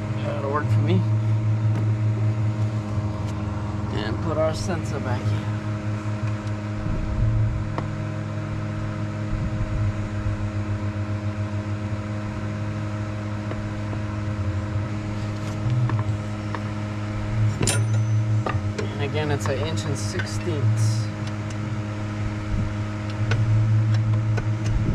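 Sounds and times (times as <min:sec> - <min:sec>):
low machine hum: 0:00.0 - 0:24.9.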